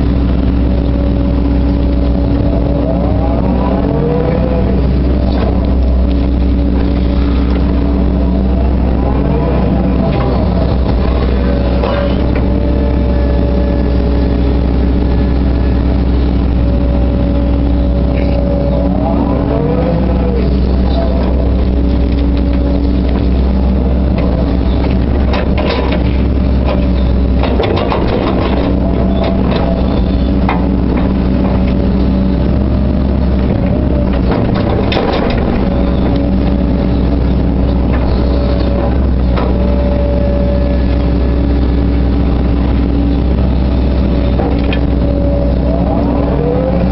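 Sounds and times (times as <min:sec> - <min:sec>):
excavator engine running: 0:00.0 - 0:46.9
hydraulic whine: 0:00.0 - 0:46.9.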